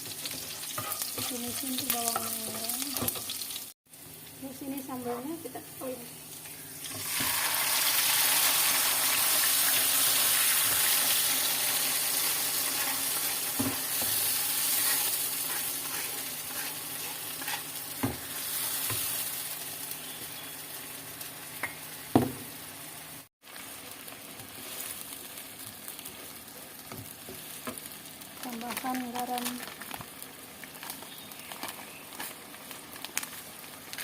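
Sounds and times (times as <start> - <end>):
paste sizzling in hot oil: 0.0 - 3.8, 4.8 - 22.2, 23.0 - 34.0.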